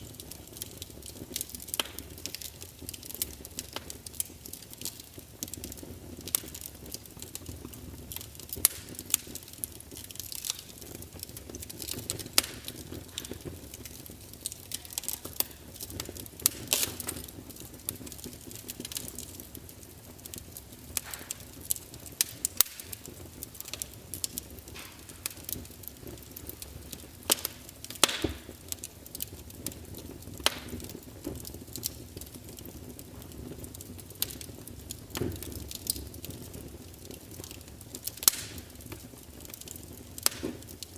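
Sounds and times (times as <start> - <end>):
hiss of flames: 0.0 - 40.9
wood fire crackling and popping: 0.0 - 40.9.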